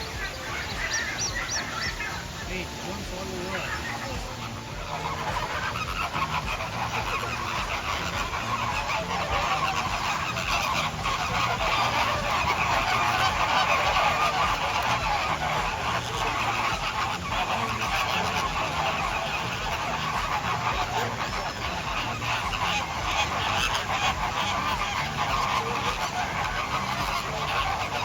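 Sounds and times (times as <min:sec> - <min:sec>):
flock of birds honking: 0:00.0 - 0:28.0.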